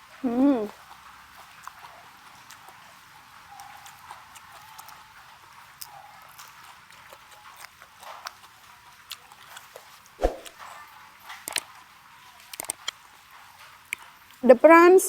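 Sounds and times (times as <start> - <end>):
wet chewing mouth sounds: 0.0 - 14.4.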